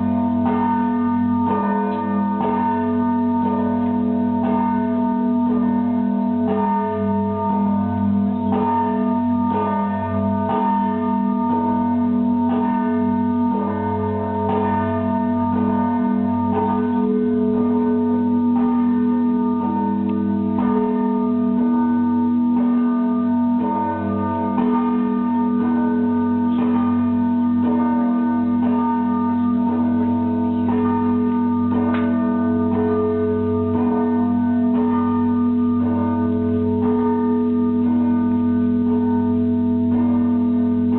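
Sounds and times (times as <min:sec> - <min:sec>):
large bells humming: 0:00.0 - 0:40.9
small bells striking: 0:00.0 - 0:40.9.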